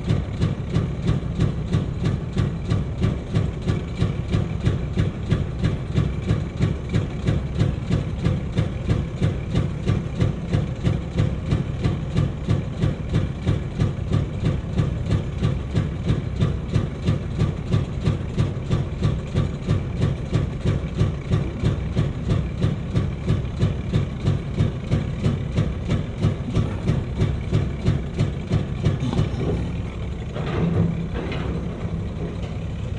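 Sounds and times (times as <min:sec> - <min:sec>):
heavy diesel engine throbbing: 0:00.0 - 0:32.9.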